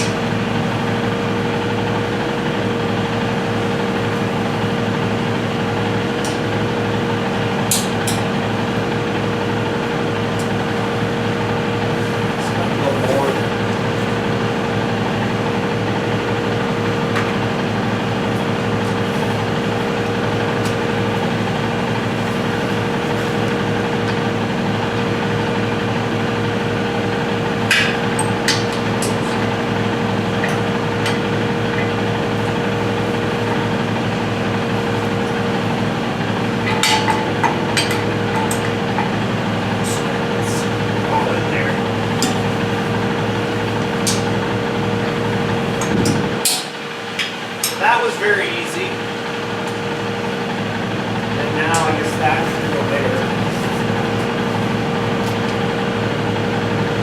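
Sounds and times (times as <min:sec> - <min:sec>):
machine hum: 0:00.0 - 0:57.0.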